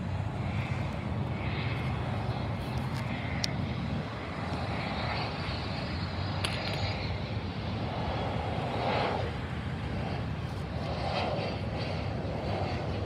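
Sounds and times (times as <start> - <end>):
distant airplane engines rumbling: 0.0 - 13.0.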